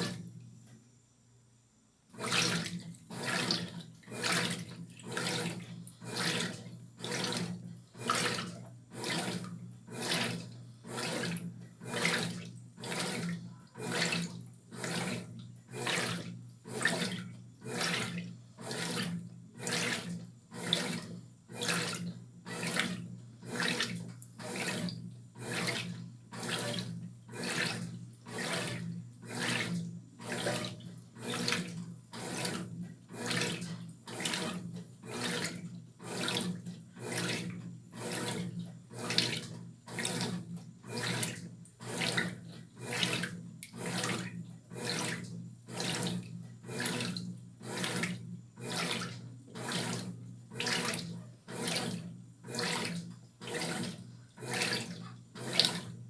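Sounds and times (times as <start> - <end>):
water sloshing in washing machine: 0.0 - 0.4, 2.1 - 56.0.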